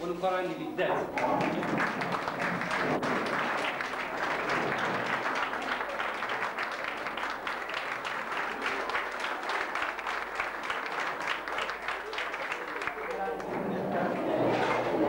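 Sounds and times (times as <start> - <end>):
audience applauding: 1.0 - 15.0.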